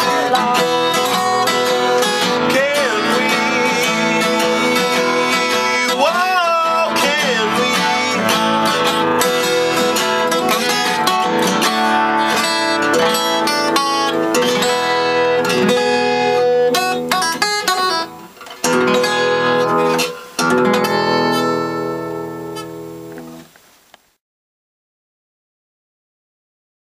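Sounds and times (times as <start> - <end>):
acoustic guitar folk song: 0.0 - 23.5.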